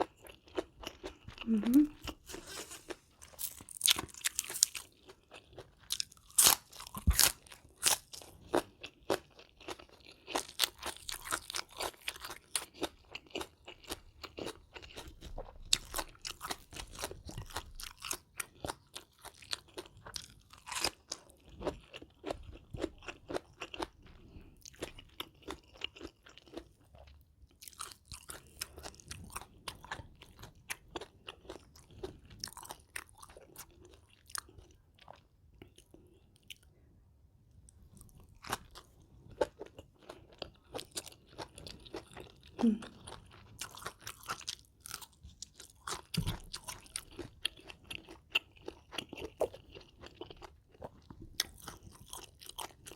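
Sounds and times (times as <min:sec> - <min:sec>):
person chewing crunchy food: 0:00.0 - 0:36.9, 0:37.6 - 0:52.9.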